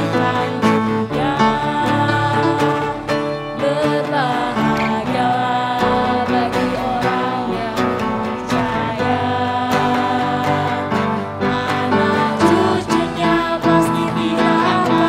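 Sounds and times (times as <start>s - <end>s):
hymn singing with accompaniment: 0.0s - 15.0s.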